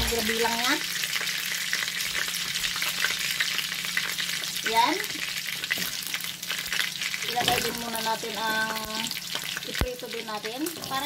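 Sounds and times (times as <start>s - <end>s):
hot oil sizzling in a wok: 0.0s - 11.0s.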